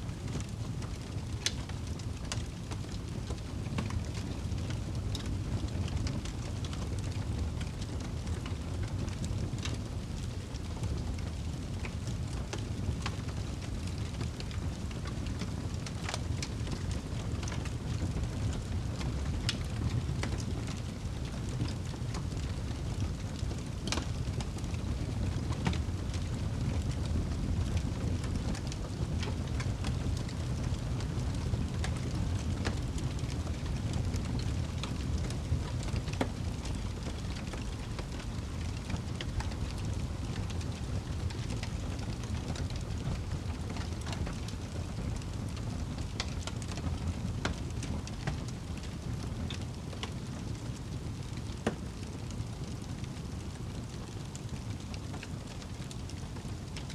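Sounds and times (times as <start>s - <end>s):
fire crackling in fireplace: 0.0s - 56.9s.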